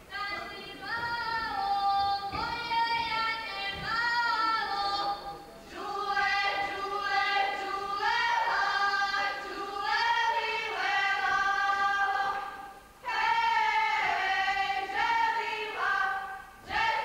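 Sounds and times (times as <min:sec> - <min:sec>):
women singing folk song unaccompanied: 0:00.0 - 0:17.0.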